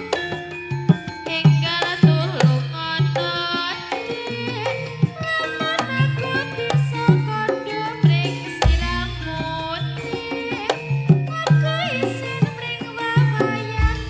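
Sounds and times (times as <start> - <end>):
hand drum strokes: 0.0 - 14.0
metal-keyed instruments melody: 0.0 - 14.0.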